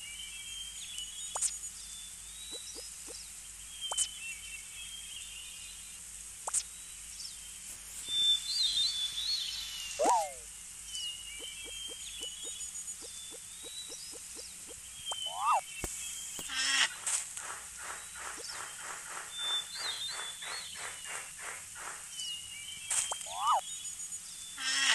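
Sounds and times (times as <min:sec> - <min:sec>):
birds chirping: 0:00.0 - 0:05.9, 0:06.6 - 0:24.9.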